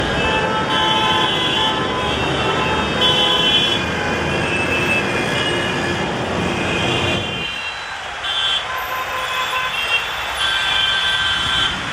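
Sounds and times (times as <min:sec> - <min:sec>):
traffic engines and road noise: 0:00.0 - 0:11.9
vehicle horns honking: 0:00.0 - 0:11.9.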